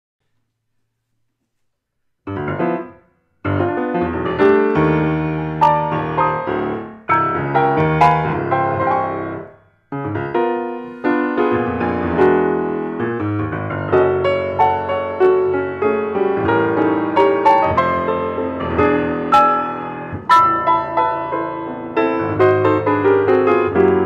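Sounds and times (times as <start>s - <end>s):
solo piano chords and melody: 2.2s - 24.0s.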